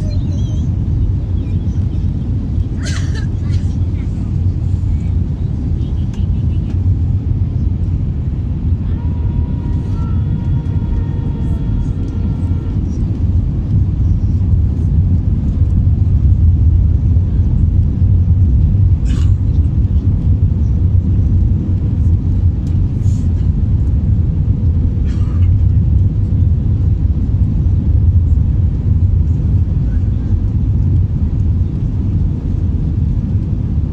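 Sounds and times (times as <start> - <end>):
airliner low rumble: 0.0 - 33.9.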